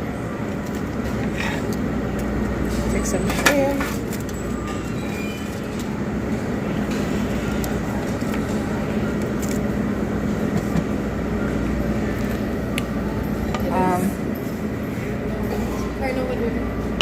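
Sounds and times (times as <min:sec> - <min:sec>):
constant low hum: 0:00.0 - 0:17.0
restaurant background din: 0:00.0 - 0:17.0
utensils and dishes clinking: 0:00.4 - 0:17.0.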